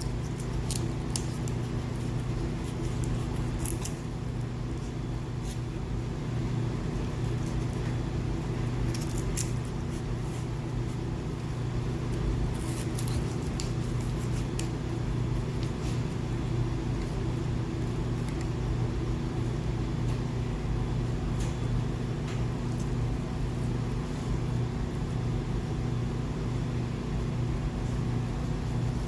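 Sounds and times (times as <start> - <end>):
fan motor humming: 0.0 - 29.0.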